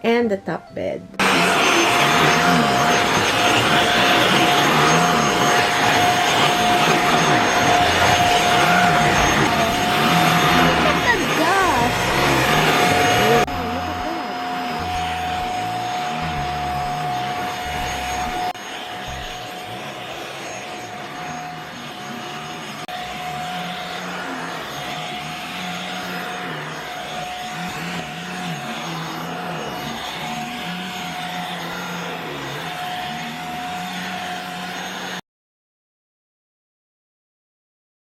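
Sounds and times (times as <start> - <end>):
handheld vacuum running: 1.2 - 35.2.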